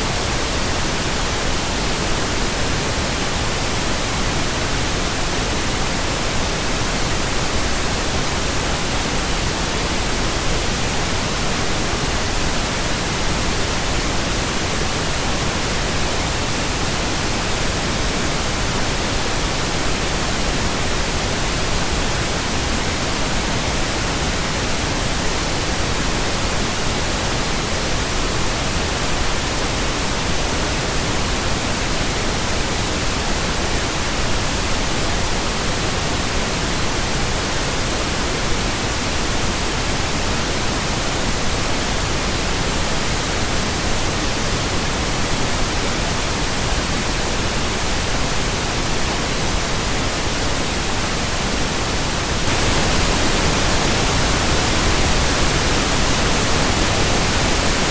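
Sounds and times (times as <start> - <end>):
pink noise hiss: 0.0 - 57.9.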